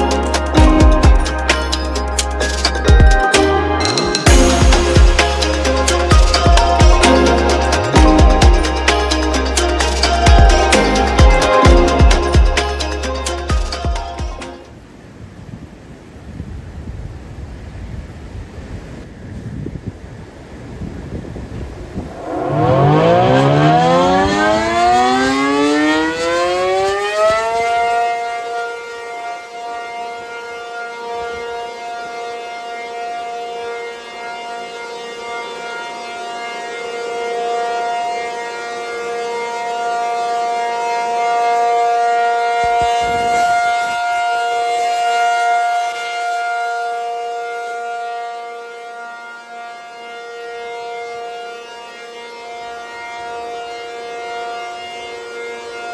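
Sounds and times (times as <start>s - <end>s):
warning siren wailing: 0.0s - 14.8s, 21.6s - 55.9s.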